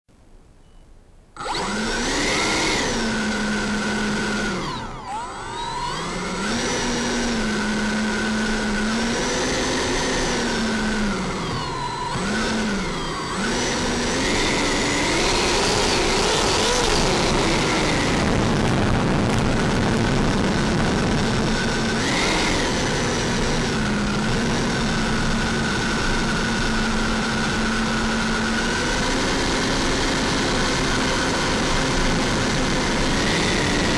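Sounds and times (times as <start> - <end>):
model jet fan whining: 1.4 - 33.9.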